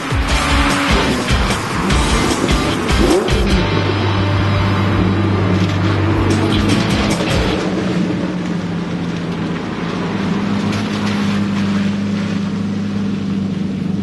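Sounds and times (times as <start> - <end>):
car engines passing: 0.0 - 14.0.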